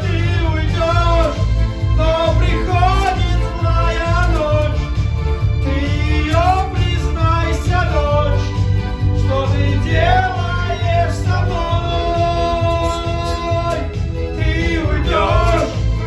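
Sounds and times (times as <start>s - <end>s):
band backing with steady beat: 0.0s - 16.0s
person singing pop song: 0.0s - 16.0s.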